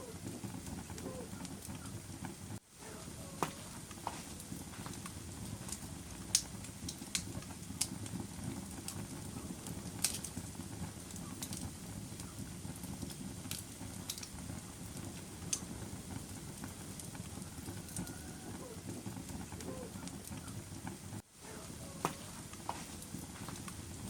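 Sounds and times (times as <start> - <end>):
fire crackling in fireplace: 0.0 - 24.0.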